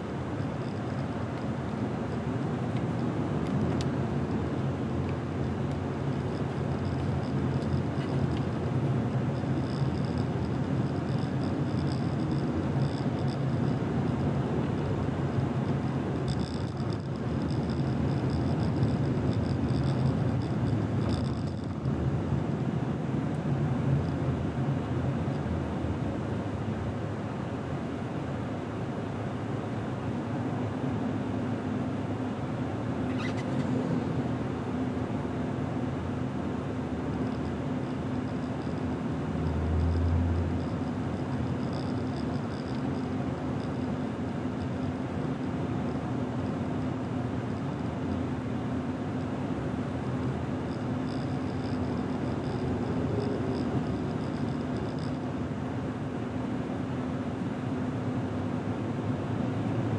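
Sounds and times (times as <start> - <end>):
faint high-pitched whine: 0.0 - 26.3, 26.9 - 59.9
road and tyre noise: 0.0 - 59.9.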